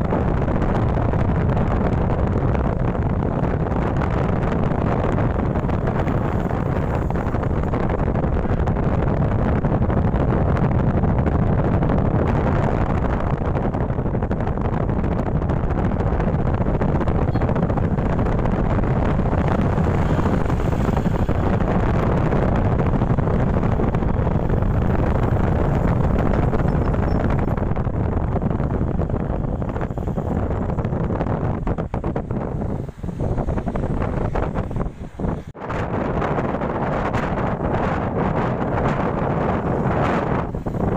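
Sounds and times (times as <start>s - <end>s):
strong wind buffeting microphone: 0.0s - 40.9s.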